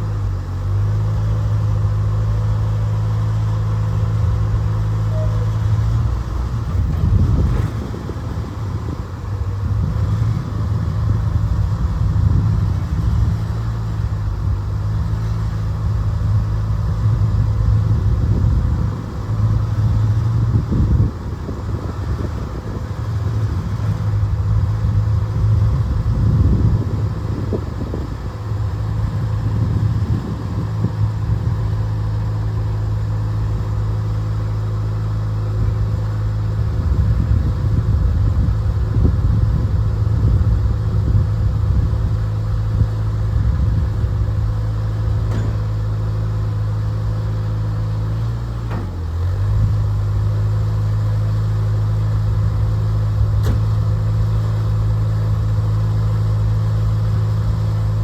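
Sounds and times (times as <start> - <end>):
machine engine humming: 0.0 - 58.0.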